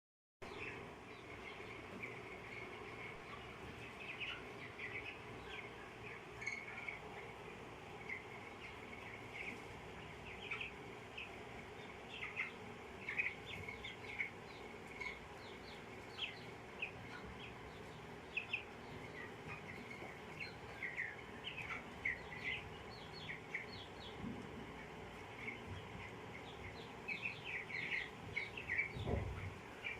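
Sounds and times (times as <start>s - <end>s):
chicks peeping: 0.4s - 29.9s
faint steady hum: 0.4s - 29.9s.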